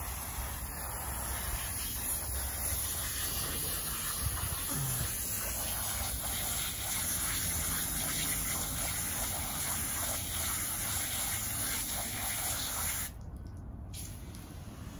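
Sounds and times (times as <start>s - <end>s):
hose spraying water on concrete: 0.0s - 13.2s, 13.9s - 14.9s.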